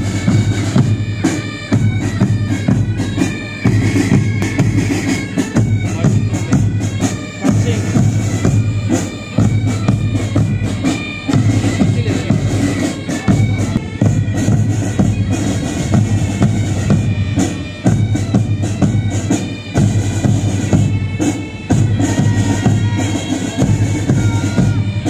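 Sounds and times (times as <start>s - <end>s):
bagpipes playing a tune: 0.0s - 25.0s
drums beating time: 0.0s - 25.0s.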